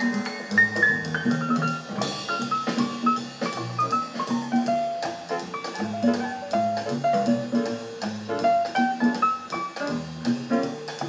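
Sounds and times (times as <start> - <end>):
jazz music on a record player: 0.0 - 11.0.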